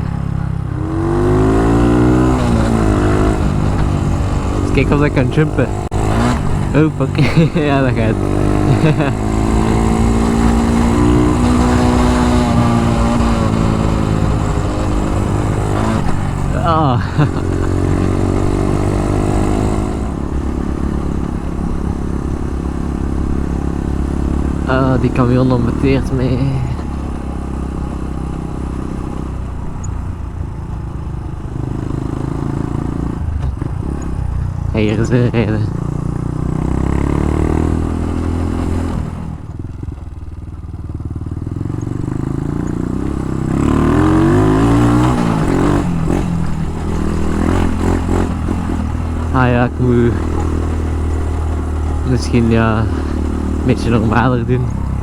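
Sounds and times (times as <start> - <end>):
minibike engine revving: 0.0 - 55.0.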